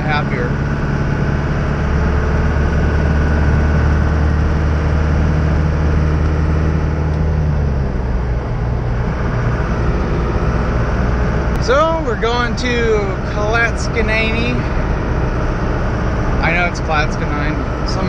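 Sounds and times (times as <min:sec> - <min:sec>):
pickup engine droning: 0:00.0 - 0:18.0
road and tyre noise: 0:00.0 - 0:18.0.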